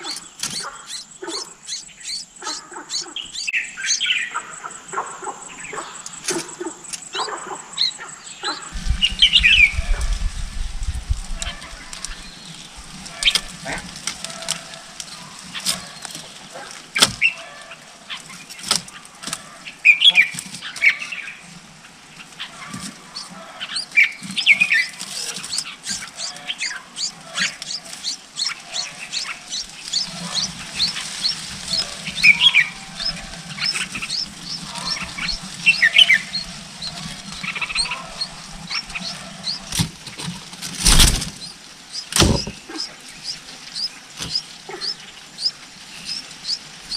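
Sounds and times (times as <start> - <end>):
wings fluttering: 0.0 - 3.5, 8.5 - 46.9
birds chirping: 0.0 - 46.9.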